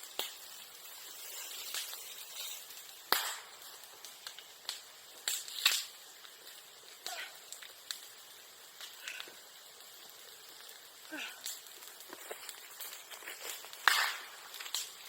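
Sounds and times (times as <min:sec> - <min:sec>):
bonfire crackling: 0:00.0 - 0:15.0
sharp cracking pops: 0:00.0 - 0:15.0.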